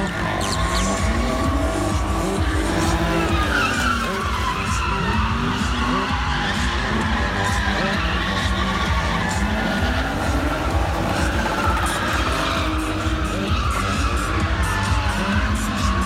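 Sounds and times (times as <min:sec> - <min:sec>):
engines revving hard: 0:00.0 - 0:16.0
tyres skidding and squealing: 0:00.0 - 0:16.0.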